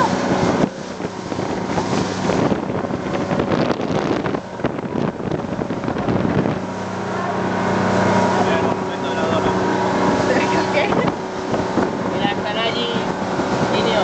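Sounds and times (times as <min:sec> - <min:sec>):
wind noise on microphone: 0:00.0 - 0:07.0, 0:08.7 - 0:14.0
motorboat engine running: 0:00.0 - 0:14.0
water noise: 0:00.0 - 0:14.0.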